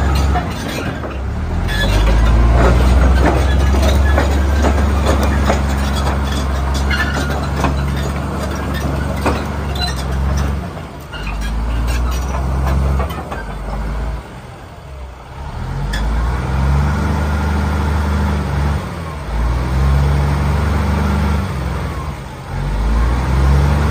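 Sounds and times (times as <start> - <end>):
diesel dozer engine revving: 0.0 - 23.9.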